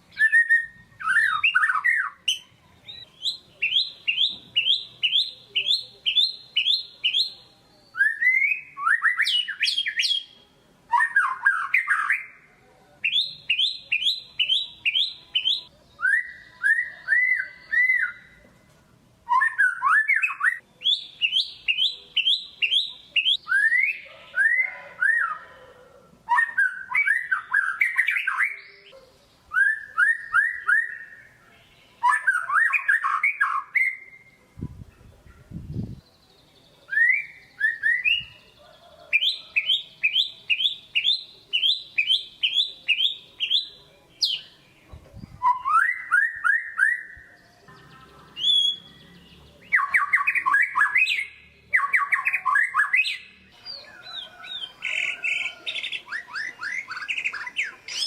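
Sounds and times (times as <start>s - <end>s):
bird singing whistled phrases: 0.1s - 12.4s, 13.0s - 18.4s, 19.3s - 25.5s, 26.3s - 34.4s, 36.9s - 38.6s, 39.2s - 44.6s, 45.2s - 47.3s, 48.4s - 49.0s, 49.7s - 58.0s.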